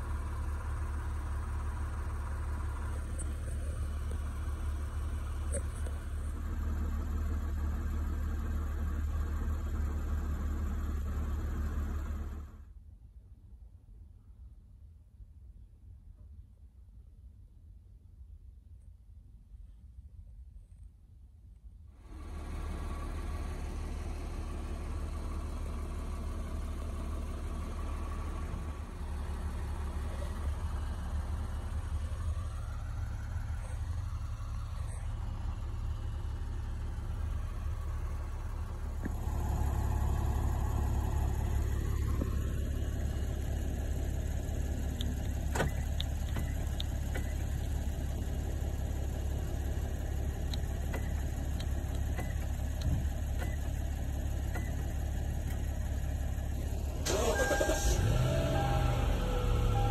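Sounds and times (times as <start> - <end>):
car engine idling: 0.0 - 12.7, 22.0 - 59.9.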